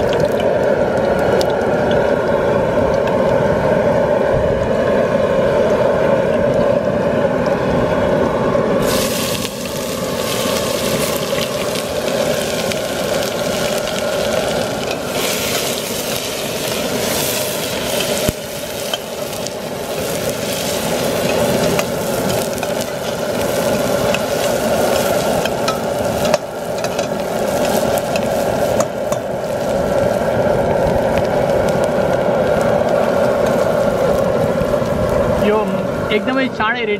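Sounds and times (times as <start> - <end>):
onions sizzling in hot oil: 0.0 - 7.7, 8.6 - 36.6
propane burner running: 0.0 - 36.9.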